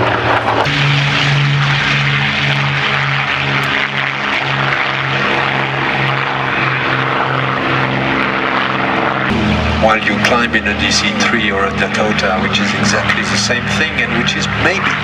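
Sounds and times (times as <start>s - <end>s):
piston engine propeller drone: 0.0s - 15.0s.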